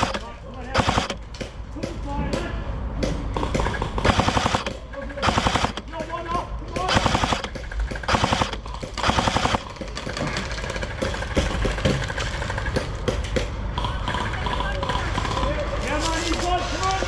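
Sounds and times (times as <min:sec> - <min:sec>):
airsoft guns firing: 0:00.0 - 0:02.0, 0:03.0 - 0:15.5.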